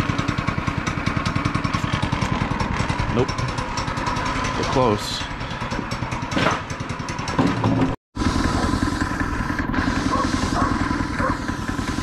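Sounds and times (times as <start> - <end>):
go-kart engine idling: 0.0 - 12.0.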